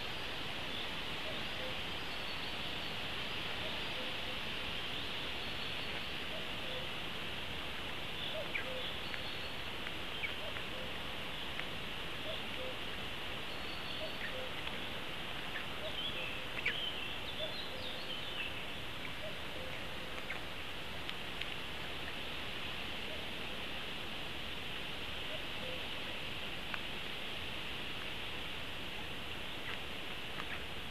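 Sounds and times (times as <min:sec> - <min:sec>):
distant songbirds chirping: 0:00.0 - 0:23.9, 0:25.1 - 0:30.9
forest ambience hiss: 0:00.0 - 0:30.9.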